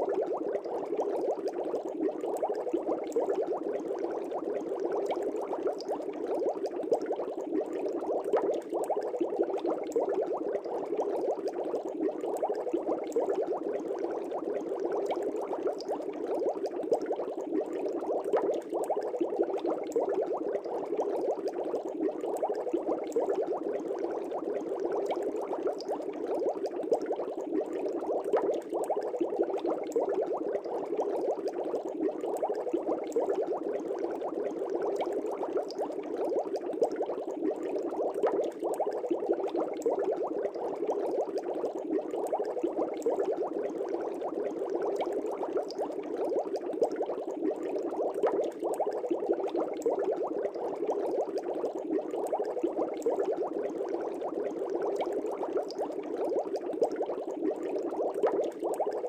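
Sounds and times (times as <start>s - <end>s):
aquarium air bubbling: 0.0s - 59.0s.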